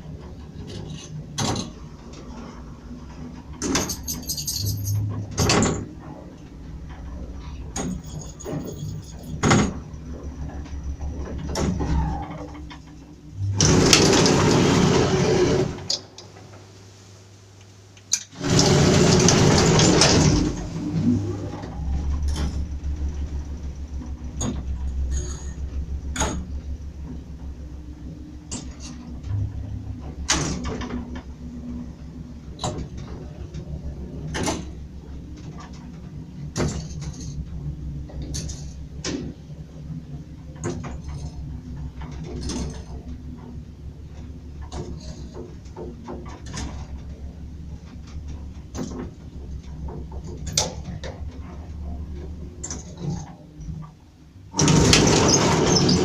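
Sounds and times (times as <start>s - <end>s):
elevator motor humming: 0.0s - 16.4s, 18.4s - 46.0s, 46.6s - 56.0s
elevator rushing clatter: 0.0s - 16.5s, 18.4s - 56.0s.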